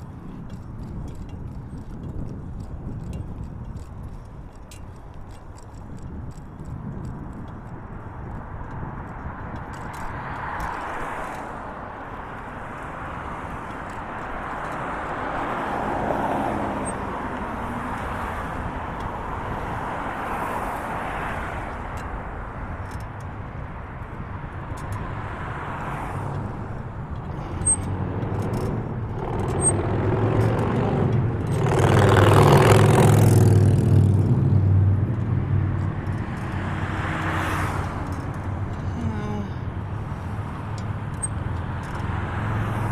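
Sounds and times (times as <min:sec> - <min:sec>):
cars passing: 0:00.0 - 0:42.9
vehicle with low engine passing: 0:00.0 - 0:42.9.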